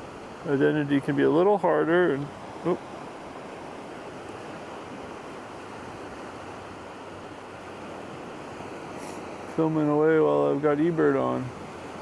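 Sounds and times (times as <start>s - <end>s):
surf on a beach: 0.0s - 12.0s.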